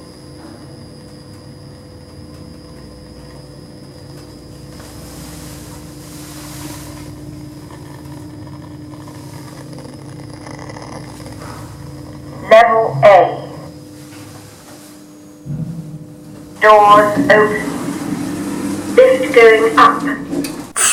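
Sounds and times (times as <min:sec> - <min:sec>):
lift motor hum: 0:00.0 - 0:20.9
whining tones: 0:00.0 - 0:20.9.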